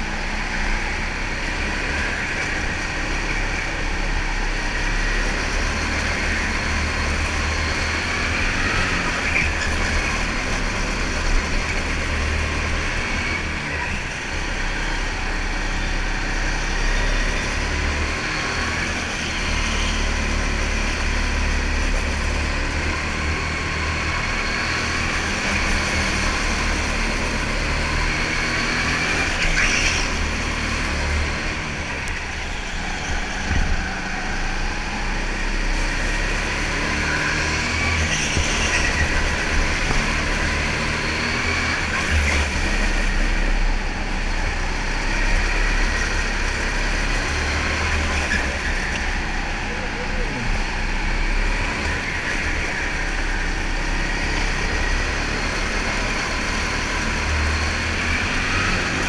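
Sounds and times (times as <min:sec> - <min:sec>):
go-kart motor revving: 0:00.0 - 0:59.0.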